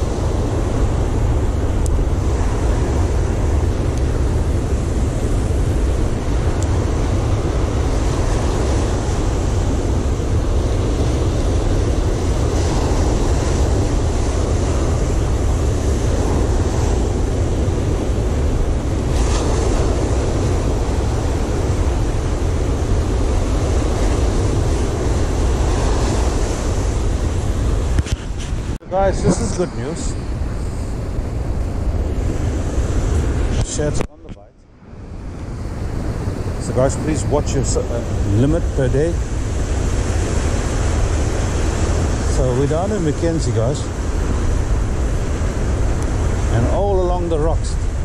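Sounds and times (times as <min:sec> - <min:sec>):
waves breaking on beach: 0:00.0 - 0:48.0
wind buffeting microphone: 0:00.0 - 0:48.0.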